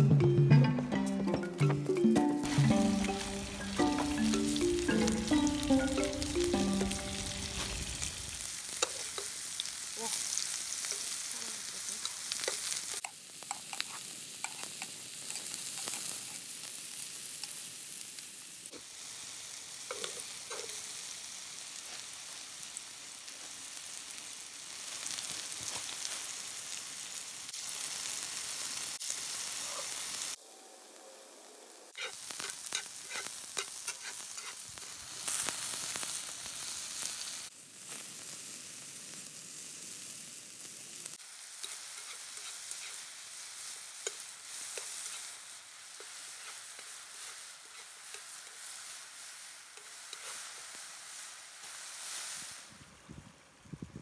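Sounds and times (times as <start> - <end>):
mushrooms sizzling in butter: 2.1 - 52.8.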